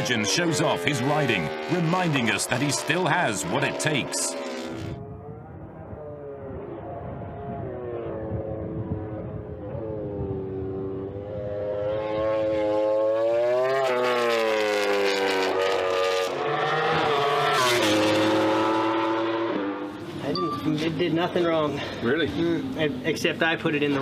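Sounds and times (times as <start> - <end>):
motorcycle engine revving: 0.0 - 20.2.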